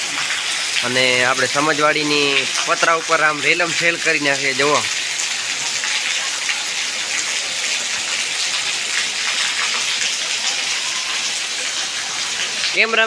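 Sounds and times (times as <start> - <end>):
heavy rain on tin roof: 0.0 - 13.0
water streaming off roof: 0.0 - 13.0.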